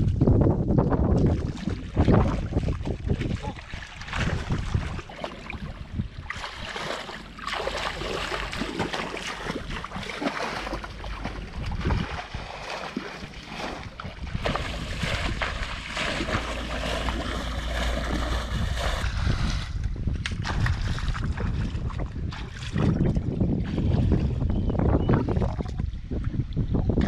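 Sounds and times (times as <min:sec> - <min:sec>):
wind noise on microphone: 0:00.0 - 0:27.0
muddy water splashing: 0:00.9 - 0:27.0.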